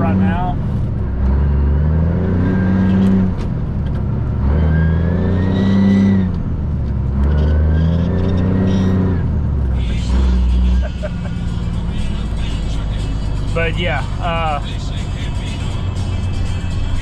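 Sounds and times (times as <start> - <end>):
diesel truck engine accelerating: 0.0 - 17.0.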